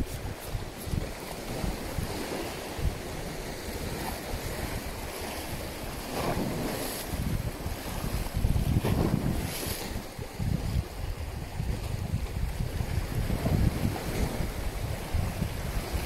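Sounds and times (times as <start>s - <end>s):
sea waves: 0.0s - 16.0s
wind buffeting microphone: 0.0s - 16.0s.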